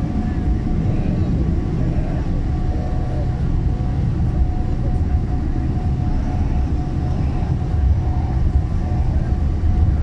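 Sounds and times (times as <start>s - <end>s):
aircraft cabin engine rumble: 0.0s - 10.0s
faint steady tone: 0.0s - 10.0s.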